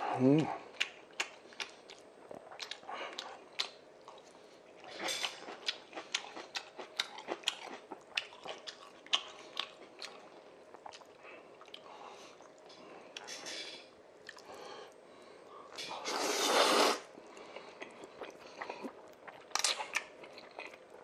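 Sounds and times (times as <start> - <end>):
close-miked chewing and mouth smacks: 0.6 - 13.5, 14.2 - 14.6, 17.2 - 21.0.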